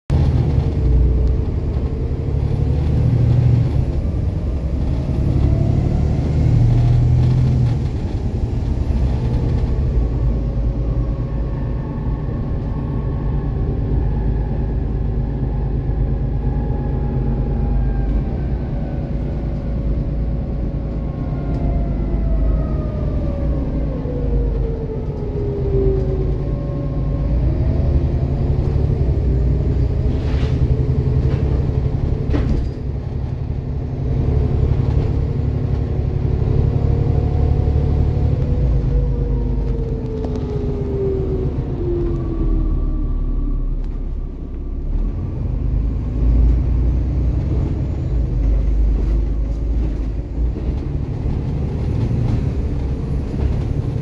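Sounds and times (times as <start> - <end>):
bus diesel engine rumble: 0.1 - 54.0.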